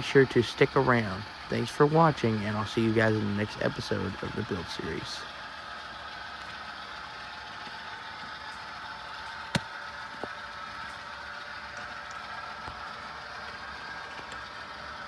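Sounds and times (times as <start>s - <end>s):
model train humming: 0.0s - 15.0s.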